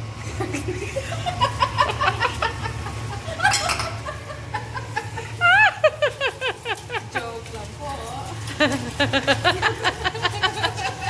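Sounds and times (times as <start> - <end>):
woman laughing: 0.3 - 7.4, 8.5 - 11.0.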